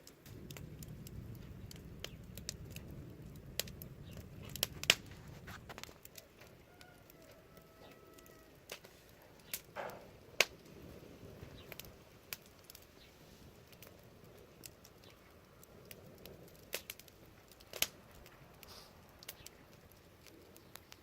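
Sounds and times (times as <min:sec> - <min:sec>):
rush of flames: 0:00.0 - 0:21.0
wood fire crackling: 0:00.0 - 0:21.0.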